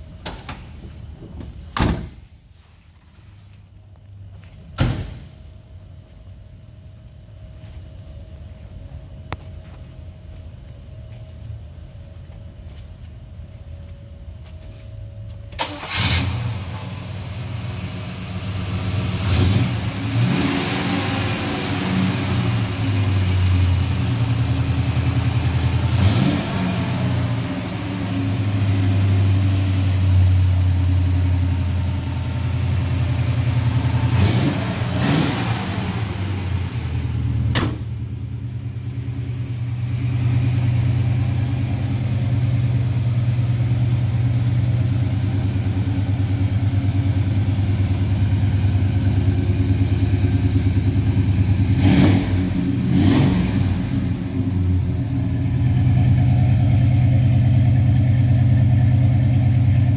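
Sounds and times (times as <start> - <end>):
car engine idling and revving: 3.1 - 59.9.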